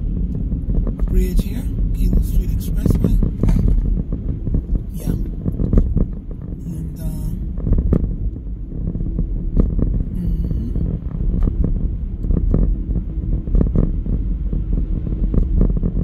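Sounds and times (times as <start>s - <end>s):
car driving on snowy road: 0.0s - 16.0s.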